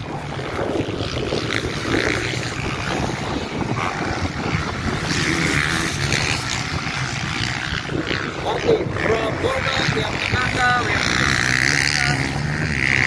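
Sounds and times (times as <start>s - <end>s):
motocross bikes racing: 0.0s - 13.0s.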